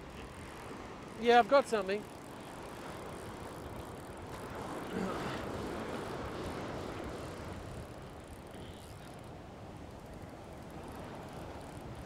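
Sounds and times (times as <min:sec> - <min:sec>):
surf waves washing on sand: 0:00.0 - 0:12.0.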